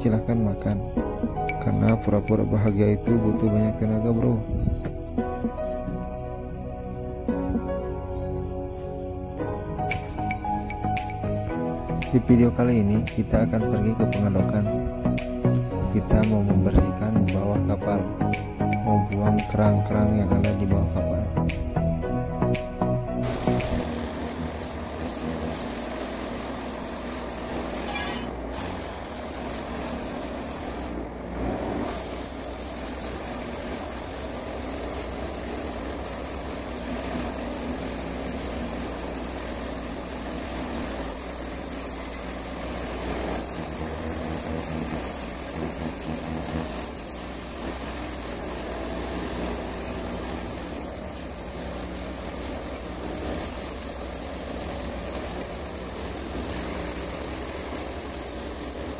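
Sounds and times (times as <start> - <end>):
broad hiss: 0.0 - 58.9
heavy machinery drone: 0.0 - 58.9.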